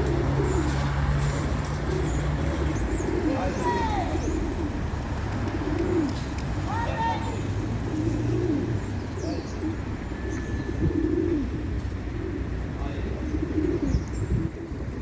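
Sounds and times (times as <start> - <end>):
pigeons cooing: 0.0 - 6.5, 7.3 - 15.0.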